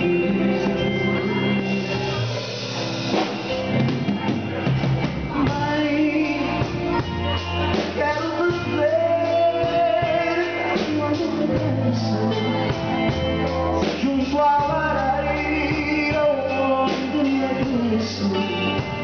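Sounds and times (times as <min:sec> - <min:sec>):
person singing: 0:00.0 - 0:19.0
pop-rock band playing: 0:00.0 - 0:19.0.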